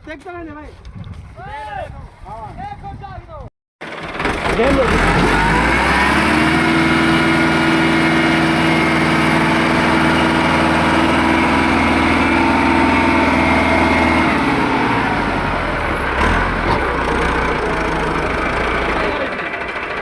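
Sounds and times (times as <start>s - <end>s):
tractor diesel engine running: 3.8s - 20.0s.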